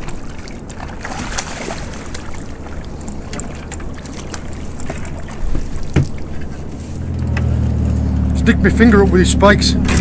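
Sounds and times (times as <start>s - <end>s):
water splashing against boat: 0.0s - 10.0s
wind and sea rushing: 0.0s - 10.0s.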